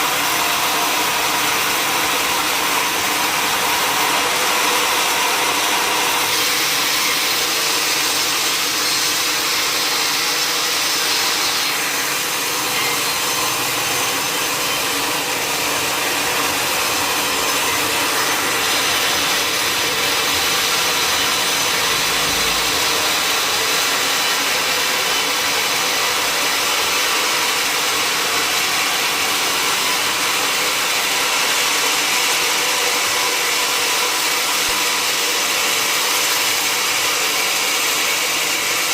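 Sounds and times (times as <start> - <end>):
mill machinery running: 0.0 - 38.9
sawmill saw cutting wood: 0.0 - 38.9.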